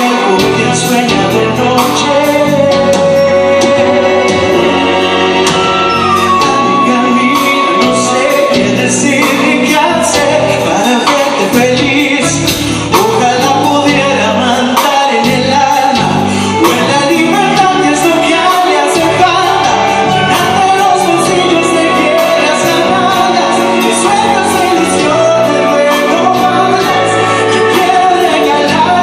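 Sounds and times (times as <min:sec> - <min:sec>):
drum beats: 0:00.0 - 0:29.0
orchestra and band playing pop ballad: 0:00.0 - 0:29.0
person singing: 0:00.0 - 0:29.0.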